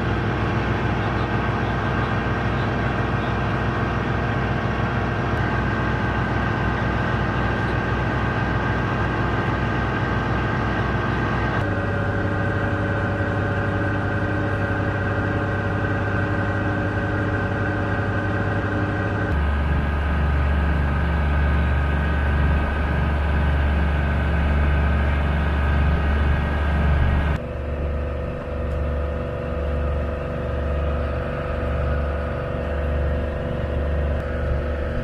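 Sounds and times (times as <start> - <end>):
boat diesel engines droning: 0.0 - 35.0.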